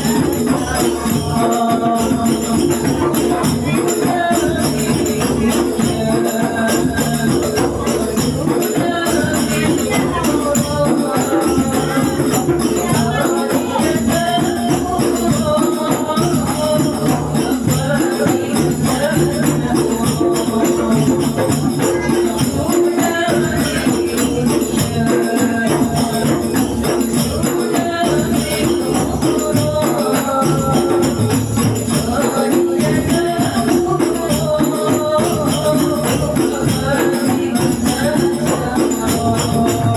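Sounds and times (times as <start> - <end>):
hand percussion: 0.0 - 39.9.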